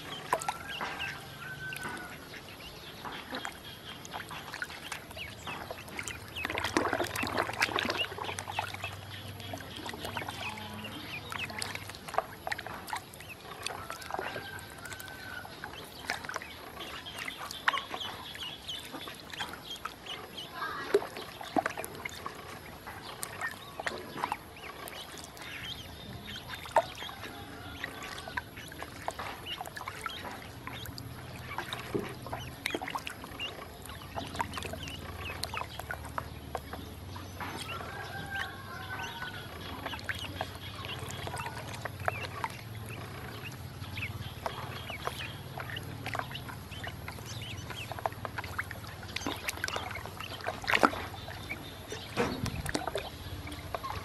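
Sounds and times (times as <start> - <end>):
ducklings peeping: 0.0 - 54.0
ducklings splashing in water: 0.0 - 54.0.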